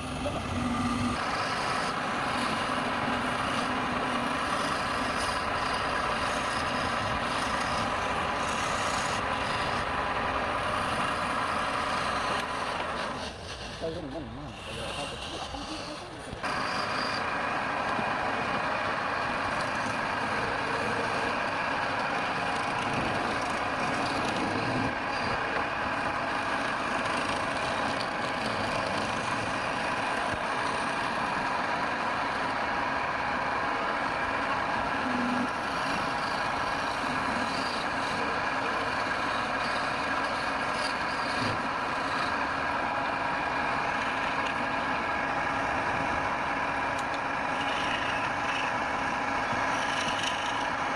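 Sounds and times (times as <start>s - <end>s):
wood lathe humming: 0.0s - 13.8s, 14.5s - 50.9s.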